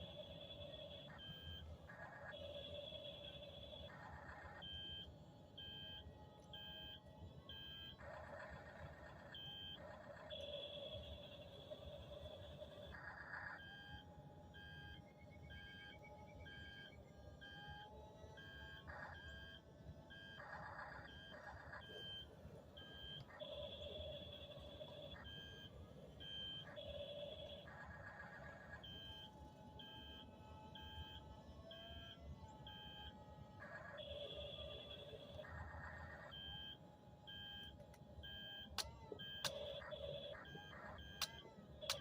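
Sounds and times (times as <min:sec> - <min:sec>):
faint electronic beeping: 0:00.0 - 0:42.0.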